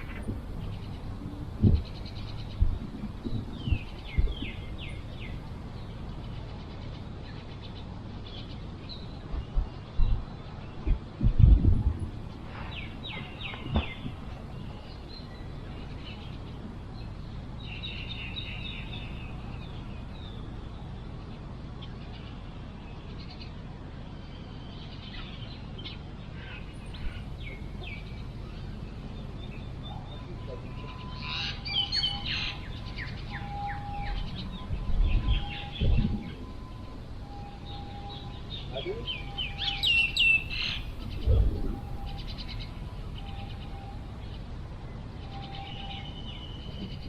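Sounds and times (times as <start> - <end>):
steady low rumble: 0.0 - 23.3, 25.1 - 45.3
birds chirping: 0.0 - 47.0.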